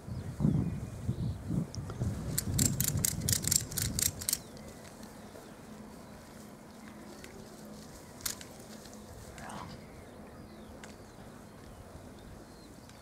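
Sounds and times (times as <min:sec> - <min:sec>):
quiet outdoor background: 0:00.0 - 0:13.0.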